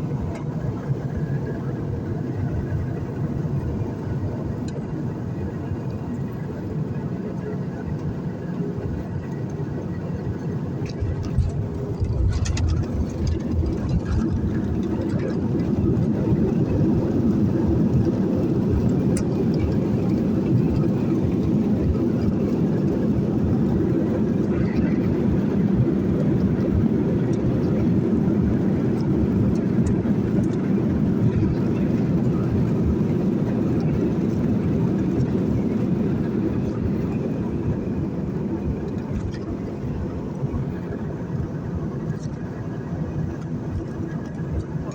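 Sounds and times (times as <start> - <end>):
airliner cabin rumble: 0.0 - 44.9.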